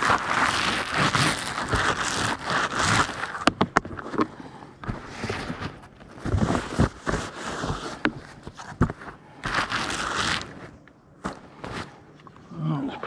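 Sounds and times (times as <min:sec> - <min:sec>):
rustling and scraping: 0:00.0 - 0:13.0.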